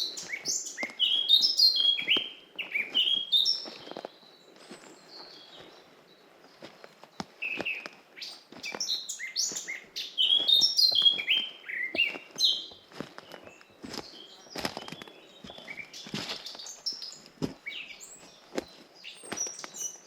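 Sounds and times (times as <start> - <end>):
soft footsteps on path: 0.0 - 20.0
songbirds singing: 0.0 - 20.0.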